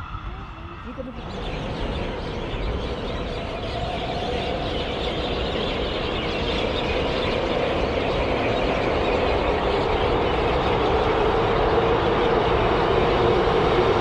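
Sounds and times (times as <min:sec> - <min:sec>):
electric train approaching: 0:00.0 - 0:14.0.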